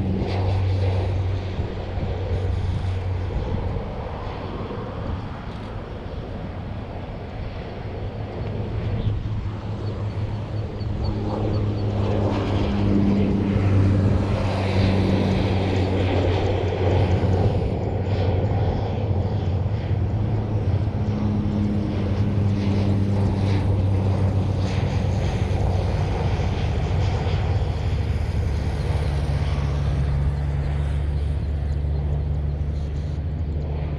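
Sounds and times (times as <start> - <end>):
aircraft engine drone: 0.0 - 33.9.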